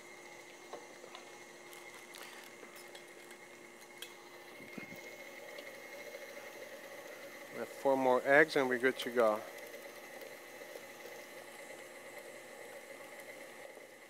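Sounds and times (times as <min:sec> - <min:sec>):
stand mixer motor running: 0:00.0 - 0:14.0.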